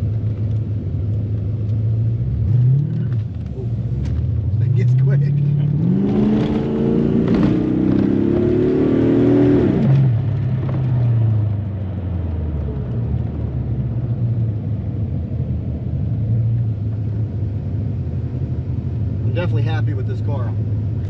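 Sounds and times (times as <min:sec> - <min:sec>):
tyre and road noise: 0:00.0 - 0:21.0
car engine accelerating: 0:00.1 - 0:21.0.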